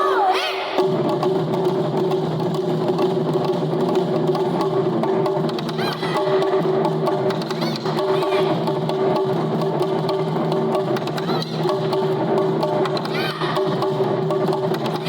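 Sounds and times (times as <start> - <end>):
drumming: 0.0 - 15.0.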